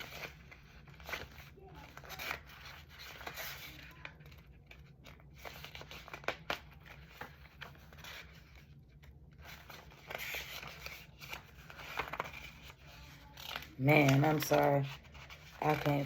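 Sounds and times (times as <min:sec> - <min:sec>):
book pages turning: 0:00.0 - 0:16.0.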